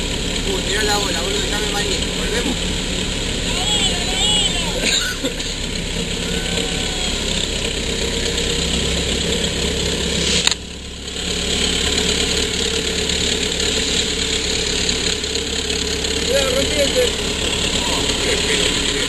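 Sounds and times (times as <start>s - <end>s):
boat engine running: 0.0s - 19.0s
water rushing along hull: 0.0s - 19.0s.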